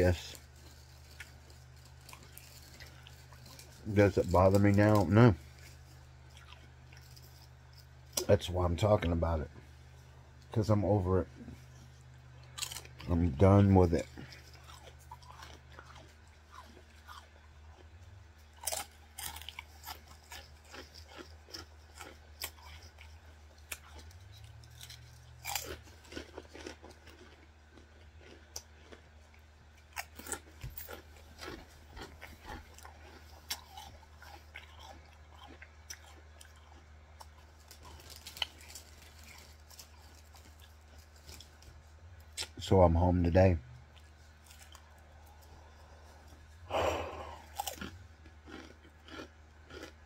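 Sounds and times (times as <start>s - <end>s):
steady low hum: 0.0s - 50.0s
chewing and mouth sounds: 0.1s - 8.4s, 11.4s - 42.6s, 43.7s - 50.0s.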